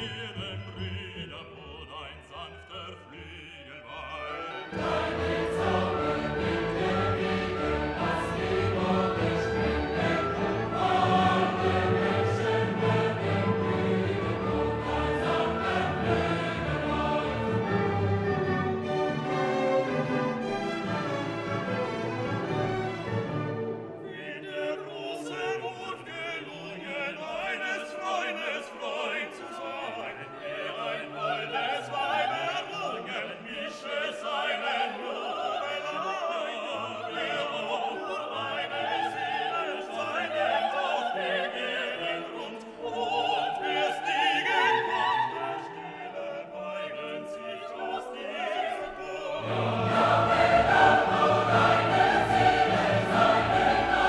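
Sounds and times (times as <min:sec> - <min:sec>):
operatic choir and orchestra music: 0:00.0 - 0:54.0.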